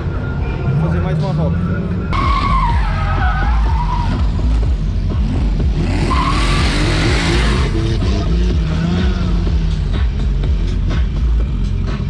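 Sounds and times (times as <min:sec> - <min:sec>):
tyres skidding and squealing: 0:00.0 - 0:12.0
car engines at high revs: 0:02.2 - 0:12.0.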